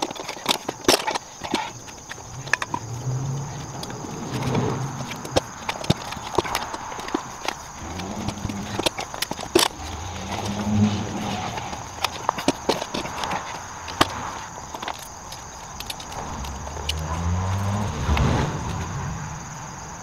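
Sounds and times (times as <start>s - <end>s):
metal clanks and clicks: 0.0s - 17.2s.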